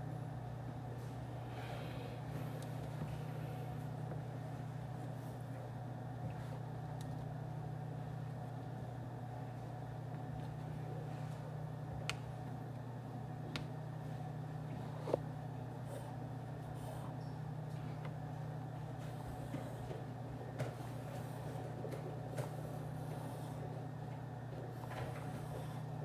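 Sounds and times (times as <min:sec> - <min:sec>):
ventilation hum: 0:00.0 - 0:26.0.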